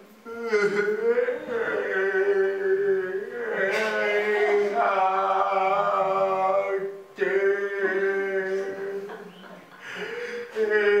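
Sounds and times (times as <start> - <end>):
person chanting on one pitch: 0.5 - 9.3.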